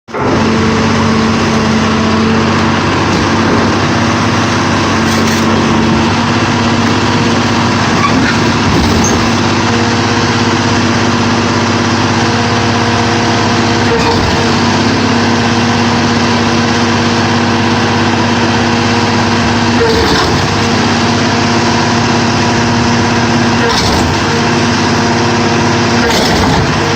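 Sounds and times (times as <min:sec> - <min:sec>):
baler engine running: 0:00.1 - 0:26.9.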